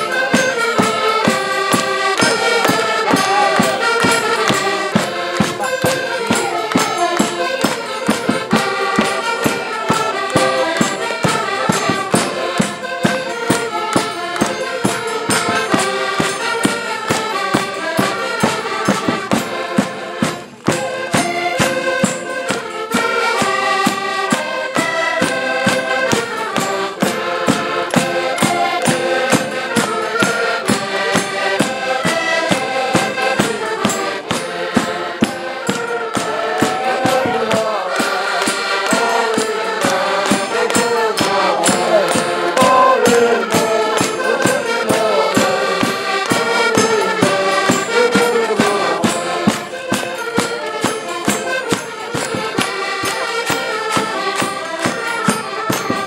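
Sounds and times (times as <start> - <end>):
steady beat: 0.0 - 24.4, 25.7 - 55.3
accordions playing folk music: 0.0 - 56.0.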